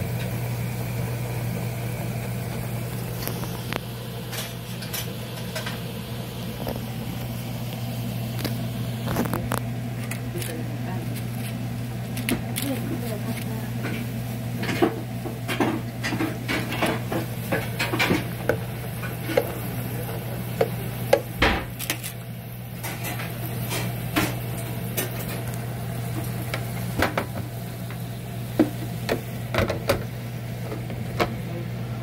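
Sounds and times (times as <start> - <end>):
oil bubbling and sizzling in fryer: 0.0 - 32.0.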